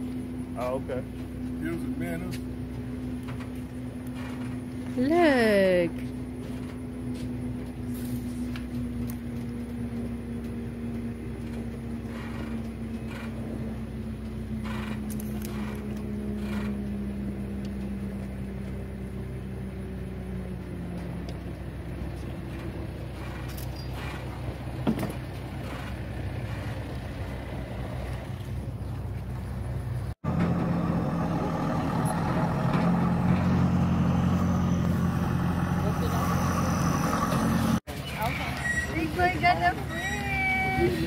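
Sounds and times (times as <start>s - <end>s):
distant motorboat engine droning: 0.0s - 41.0s.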